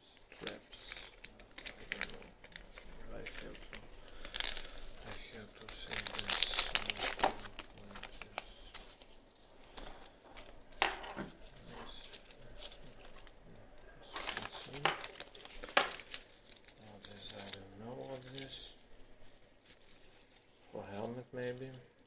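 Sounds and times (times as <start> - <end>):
plastic bag crinkling: 0.3 - 13.4, 14.0 - 22.0.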